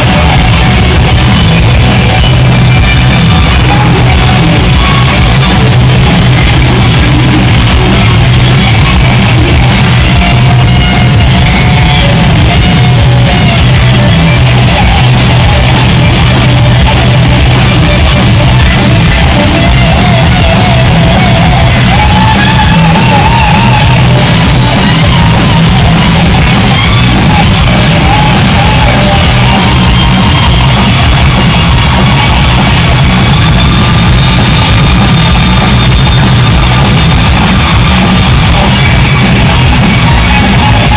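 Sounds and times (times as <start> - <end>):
shouted vocals: 0.0 - 35.0
punk rock band playing: 0.0 - 40.9.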